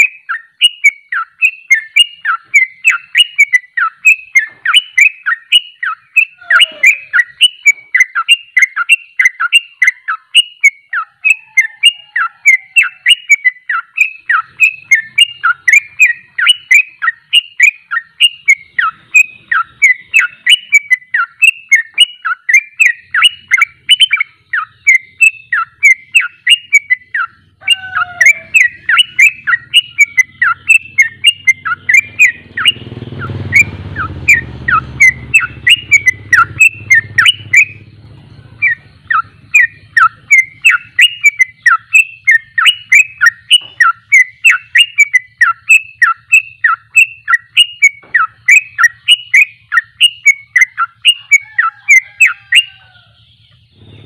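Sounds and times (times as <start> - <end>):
bird chirping rapidly: 0.0 - 54.0.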